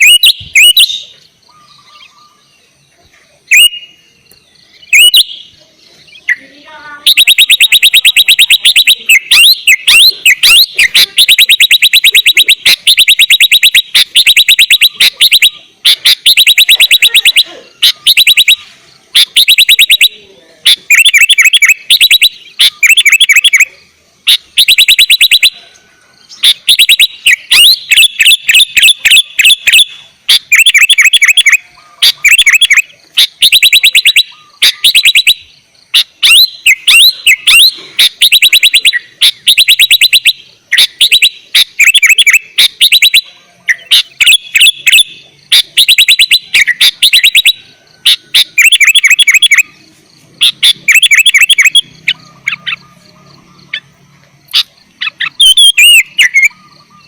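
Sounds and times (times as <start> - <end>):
bird call notes: 0.0 - 57.0
bird chattering trills: 0.0 - 57.0.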